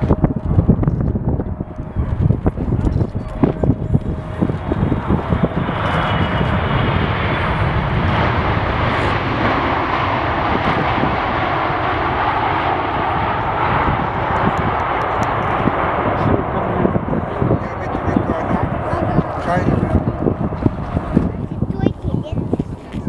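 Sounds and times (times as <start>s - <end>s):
jet engines roaring: 0.0s - 23.0s
wind buffeting microphone: 0.0s - 23.0s.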